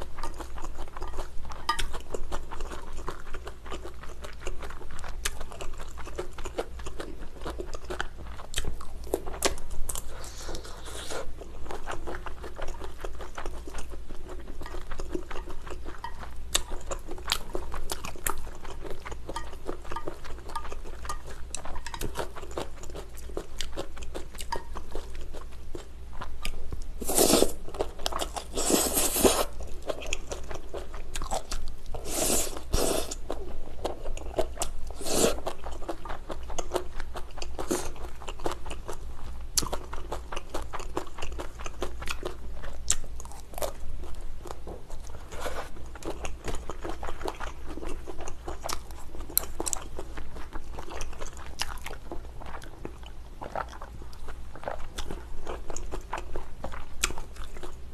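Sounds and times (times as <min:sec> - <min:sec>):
chewing noodles: 0:00.0 - 0:57.9.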